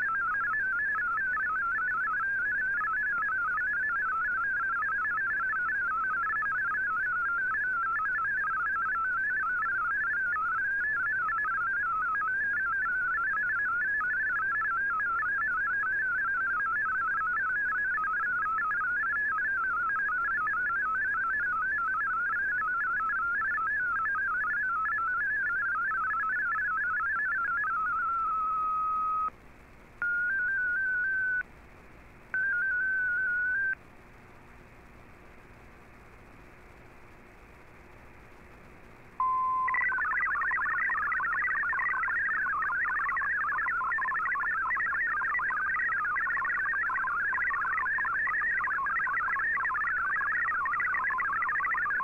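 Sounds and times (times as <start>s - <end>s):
warbling digital data tones: 0.0s - 29.3s, 30.0s - 31.4s, 32.3s - 33.8s, 39.2s - 52.0s.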